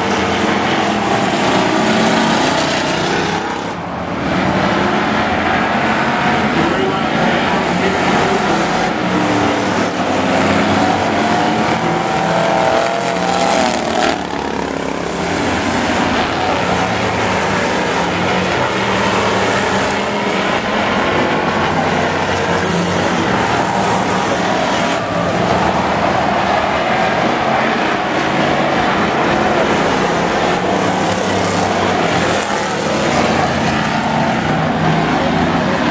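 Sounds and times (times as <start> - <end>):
engine revving up: 0.0 - 35.9
racing truck engines: 0.0 - 35.9.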